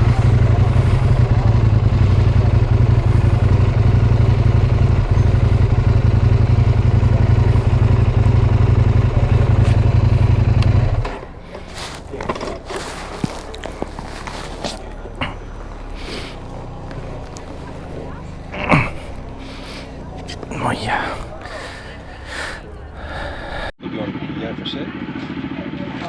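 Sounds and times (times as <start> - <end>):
motorcycle engine running: 0.0 - 23.7.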